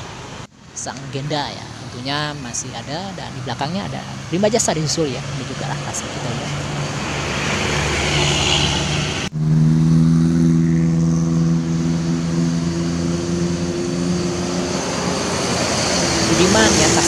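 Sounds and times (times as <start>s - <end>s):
coach bus passing: 0.0s - 17.0s
diesel engine droning: 0.0s - 17.0s.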